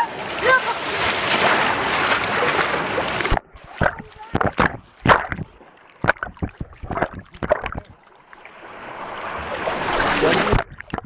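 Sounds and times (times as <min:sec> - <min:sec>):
water splashing from swimmer: 0:00.0 - 0:11.0.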